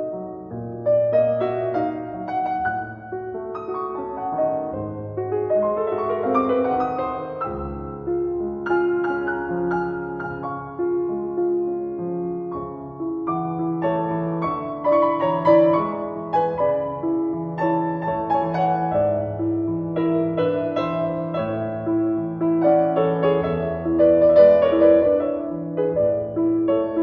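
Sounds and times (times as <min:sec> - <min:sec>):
gentle piano music: 0:00.0 - 0:27.0.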